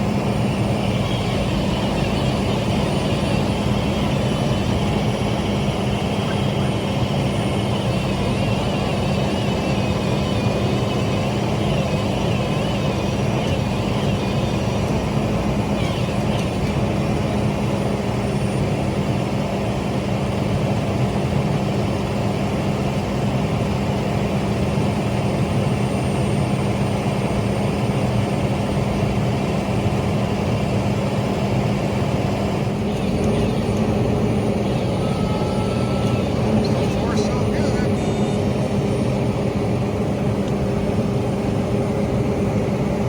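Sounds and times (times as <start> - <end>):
engine drone: 0.0 - 43.0.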